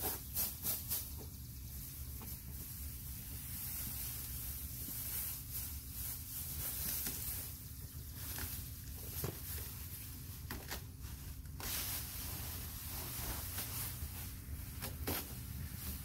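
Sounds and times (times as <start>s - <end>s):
plastic sheeting rustling: 0.0s - 16.0s.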